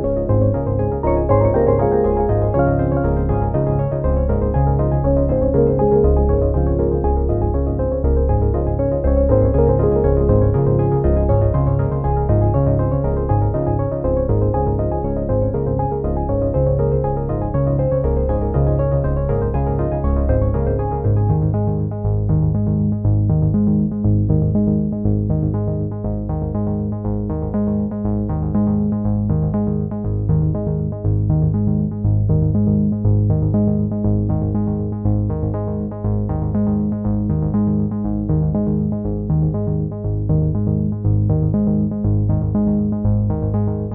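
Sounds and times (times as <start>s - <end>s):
electronic music with strong bass: 0.0s - 43.9s.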